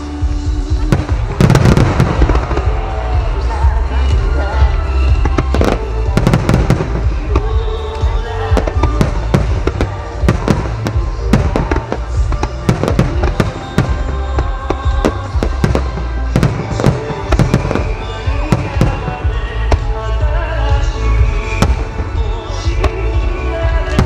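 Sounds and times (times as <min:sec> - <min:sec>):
fireworks bursting: 0:00.0 - 0:24.0
music: 0:00.0 - 0:24.0.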